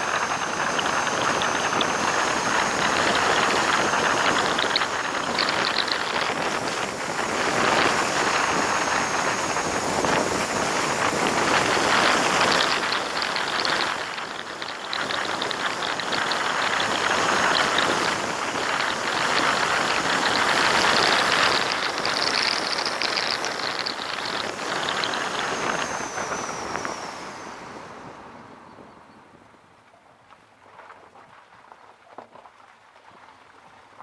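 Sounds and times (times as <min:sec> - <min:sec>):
wind rushing over microphone: 0:00.0 - 0:29.8.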